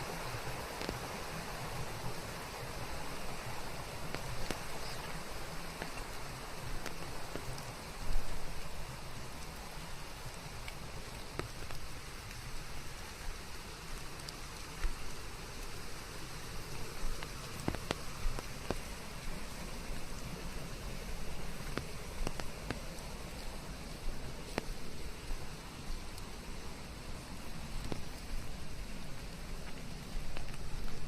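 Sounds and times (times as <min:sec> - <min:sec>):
rain falling on foliage: 0:00.0 - 0:31.0.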